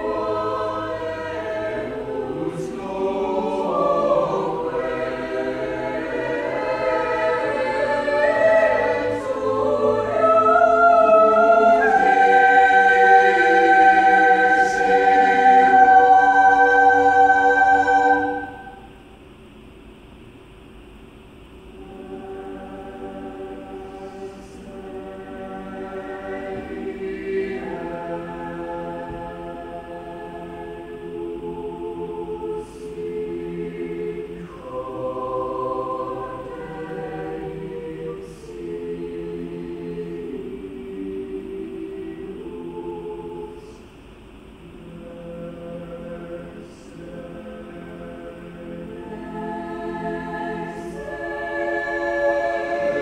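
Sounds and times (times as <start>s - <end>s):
choir singing held chords: 0.0s - 19.8s, 21.4s - 53.0s.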